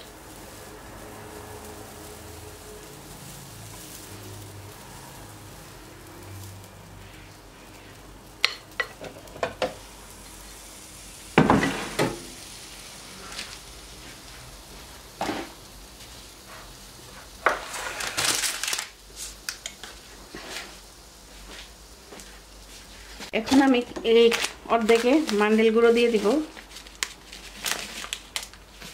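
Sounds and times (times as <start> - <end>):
batter sizzling: 0.0 - 28.9.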